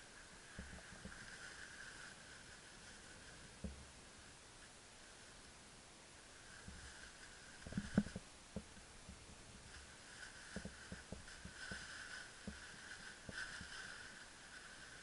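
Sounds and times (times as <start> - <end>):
faint high-pitched hum: 0.0 - 15.0
soft thumps and handling rustle: 0.4 - 3.9, 6.5 - 15.0.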